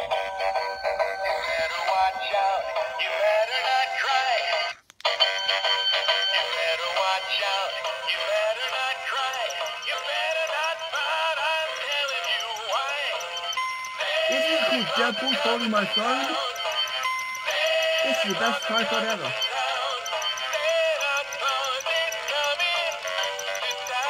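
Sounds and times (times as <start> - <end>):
tinny toy speaker song: 0.0 - 24.0.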